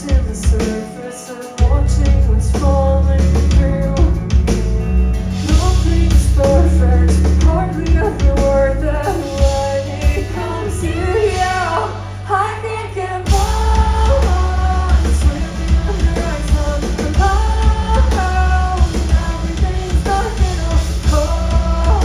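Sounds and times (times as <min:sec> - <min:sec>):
woman singing: 0:00.0 - 0:04.6, 0:05.4 - 0:22.0
drums: 0:00.0 - 0:22.0
loud bass: 0:01.6 - 0:22.0.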